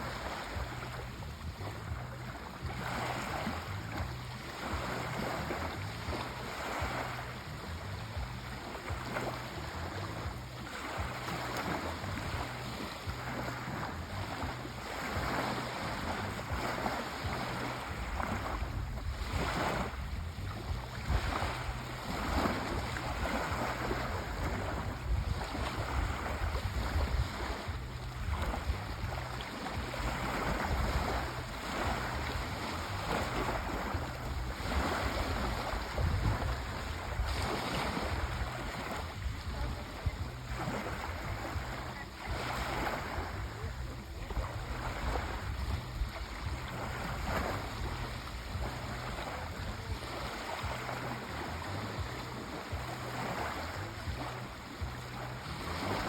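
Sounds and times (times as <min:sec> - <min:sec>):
sea waves washing on shore: 0:00.0 - 0:56.0.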